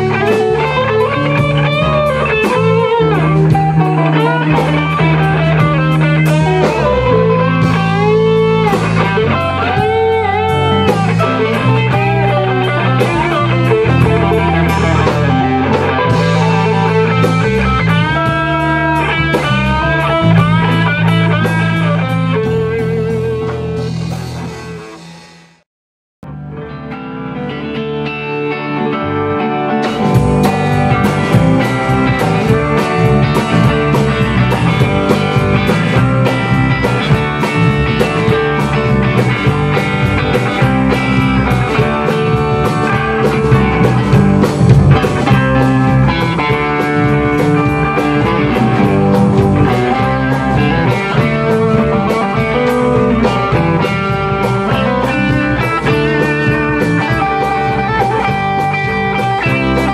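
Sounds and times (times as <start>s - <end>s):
distorted electric guitars: 0.0s - 25.6s, 26.2s - 59.9s
drums and cymbals: 0.0s - 25.6s, 29.8s - 59.9s
rock band playing instrumental: 0.0s - 25.6s, 26.2s - 59.9s.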